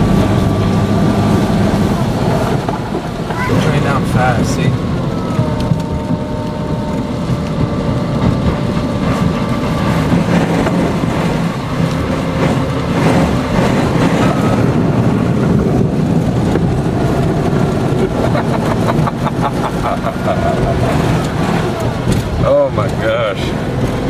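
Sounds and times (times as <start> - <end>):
heavy rain: 0.0 - 24.0
van engine: 0.0 - 24.0.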